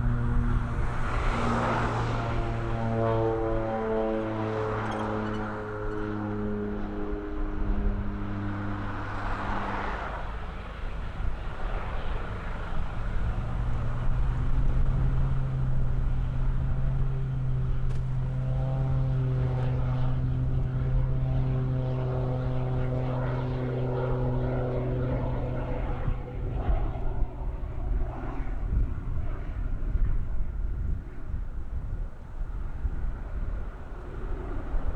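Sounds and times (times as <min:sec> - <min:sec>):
propeller aircraft engines droning: 0:00.0 - 0:34.9.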